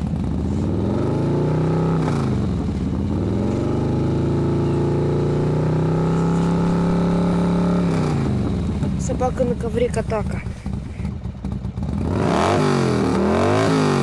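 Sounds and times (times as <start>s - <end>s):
loud engine-like drone: 0.0s - 11.2s, 11.8s - 14.0s.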